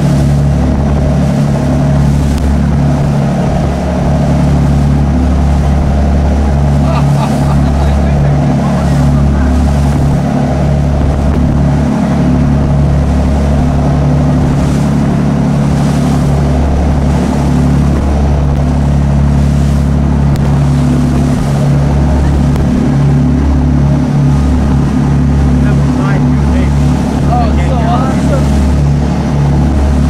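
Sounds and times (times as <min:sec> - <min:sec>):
motorboat engine drone: 0:00.0 - 0:30.0
wind and water rushing: 0:00.0 - 0:30.0.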